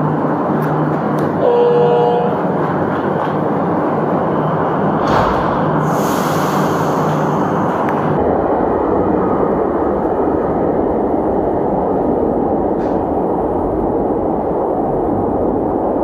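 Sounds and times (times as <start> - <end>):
metro train rumbling: 0.0 - 16.0.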